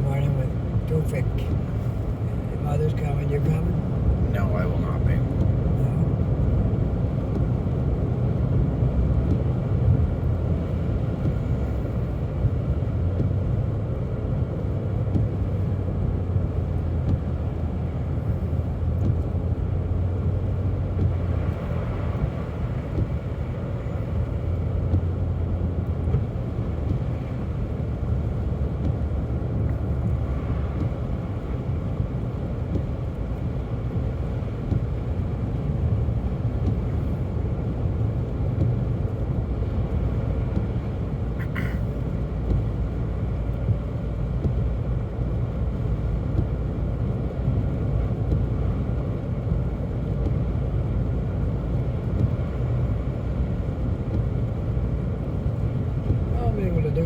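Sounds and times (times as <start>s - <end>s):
car cabin engine and road rumble: 0.0s - 57.0s.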